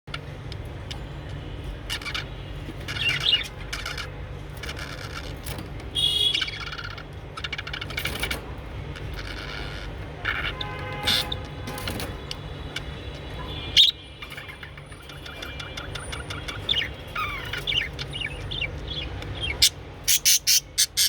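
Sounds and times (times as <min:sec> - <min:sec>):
budgerigars chirping and chattering: 0:00.1 - 0:21.0.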